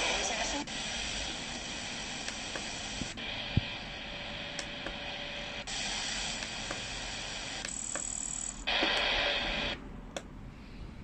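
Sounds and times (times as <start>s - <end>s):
radio static and hiss: 0.0s - 9.8s.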